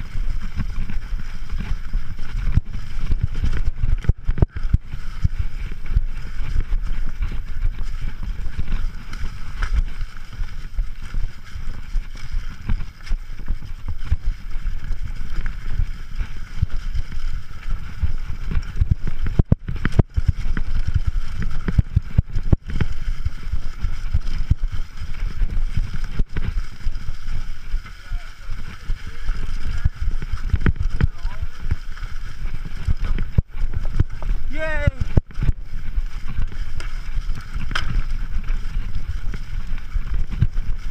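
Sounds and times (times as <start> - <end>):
bike knocking and rattling: 0.0 - 40.9
wind rumbling on microphone: 0.0 - 40.9.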